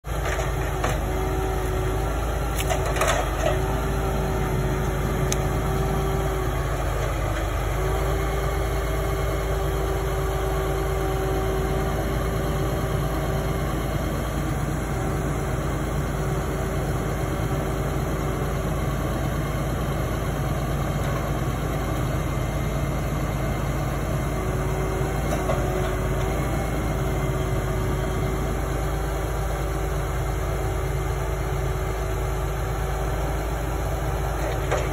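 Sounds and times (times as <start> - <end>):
tractor engine running: 0.0 - 34.9
hydraulic crane whine: 0.1 - 34.9.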